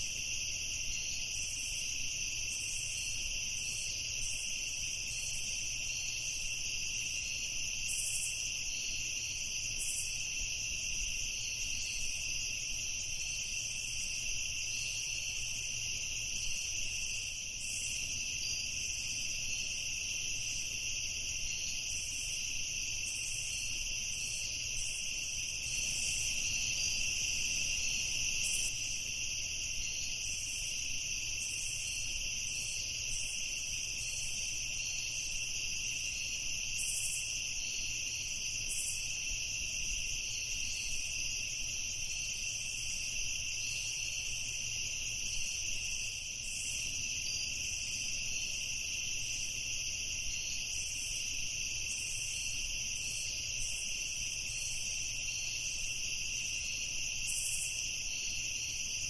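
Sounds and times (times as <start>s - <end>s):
crickets trilling: 0.0s - 59.0s
higher insect chirps: 0.0s - 59.0s.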